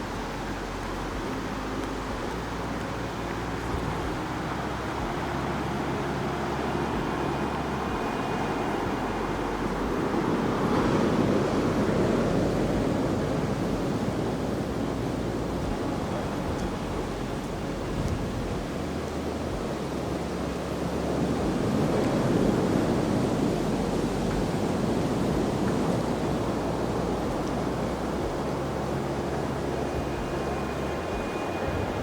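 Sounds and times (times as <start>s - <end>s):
ocean surf on beach: 0.0s - 32.0s
wind on microphone: 0.0s - 32.0s.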